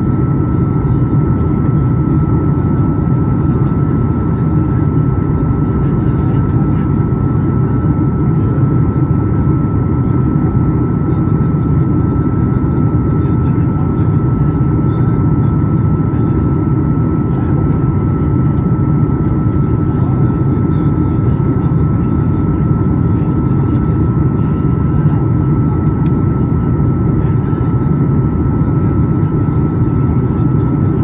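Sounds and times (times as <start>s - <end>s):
airplane cabin engine rumble: 0.0s - 31.0s.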